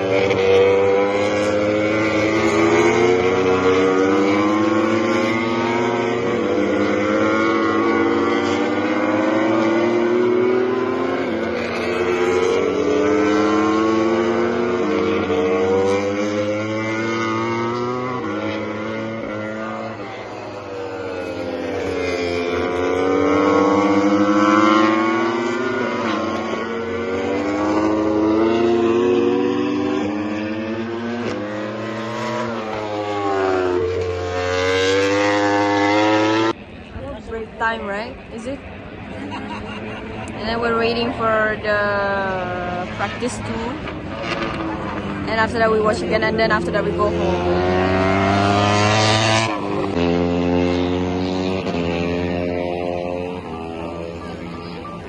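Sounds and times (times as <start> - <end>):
racing motorcycles at high revs: 0.0 - 55.0.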